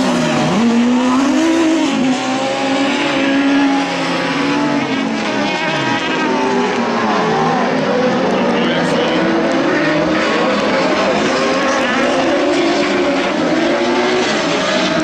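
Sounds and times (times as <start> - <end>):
buggy engines revving: 0.0 - 15.0.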